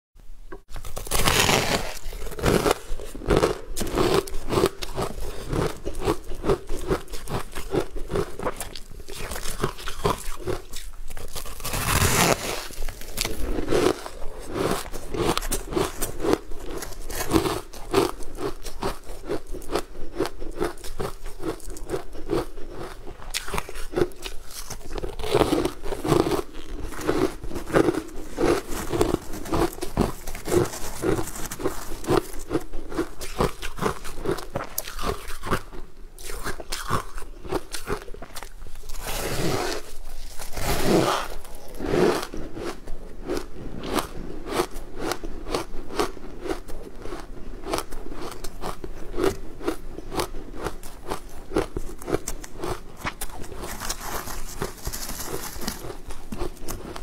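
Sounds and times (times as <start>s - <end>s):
crunchy chewing: 0.7s - 57.0s.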